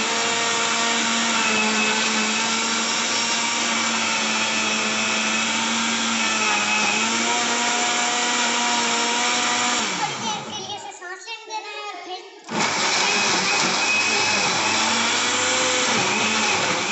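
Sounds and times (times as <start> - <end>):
mixer grinder motor whine: 0.0 - 10.5, 12.5 - 16.9.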